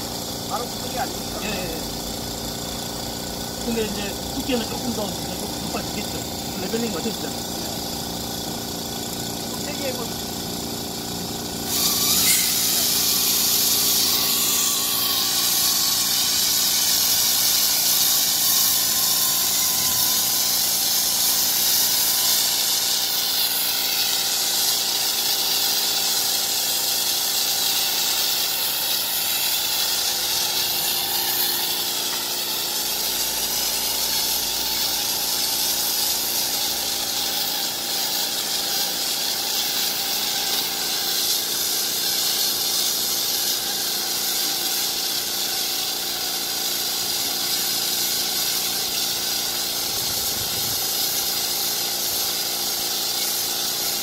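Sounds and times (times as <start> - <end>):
spray gun hissing: 0.0 - 54.0.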